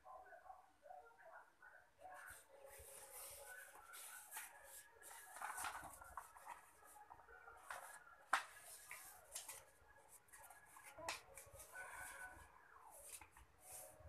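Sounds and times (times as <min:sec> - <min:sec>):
paper rustling: 0:02.2 - 0:14.0.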